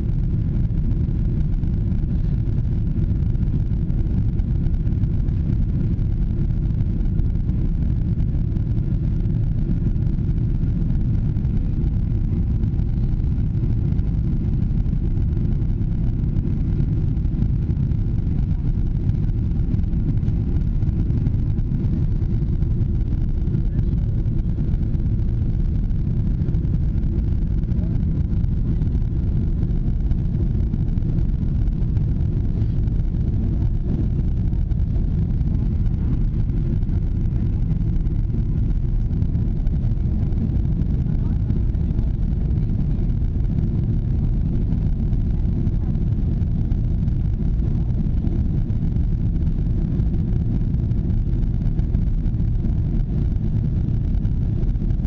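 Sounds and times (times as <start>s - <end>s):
jet engines rumbling: 0.0s - 55.0s
rushing airflow: 0.0s - 55.0s.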